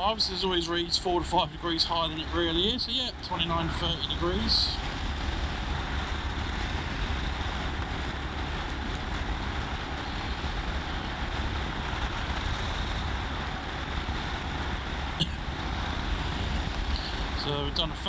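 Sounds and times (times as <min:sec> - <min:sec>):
motorcycle riding: 0:00.0 - 0:18.0
wind rumbling on microphone: 0:00.0 - 0:18.0.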